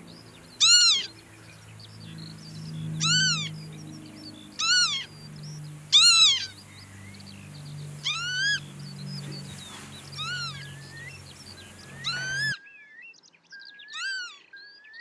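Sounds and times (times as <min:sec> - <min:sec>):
faint bird chirps: 0:00.0 - 0:12.6
lapwing pee-wit calls: 0:00.0 - 0:12.6
low steady hum: 0:00.0 - 0:12.6.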